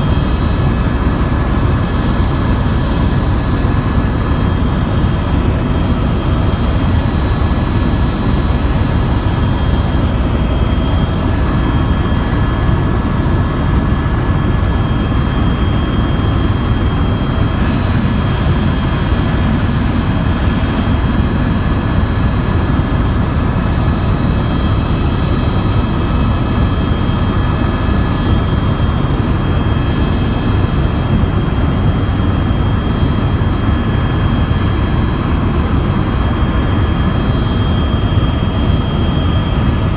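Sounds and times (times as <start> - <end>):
helicopter rotor and engine drone: 0.0 - 39.9
thin steady whine: 0.0 - 39.9.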